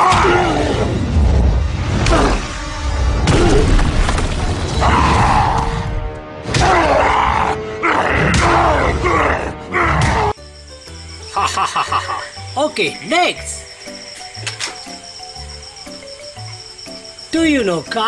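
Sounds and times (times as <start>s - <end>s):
dramatic action music: 0.0s - 18.0s.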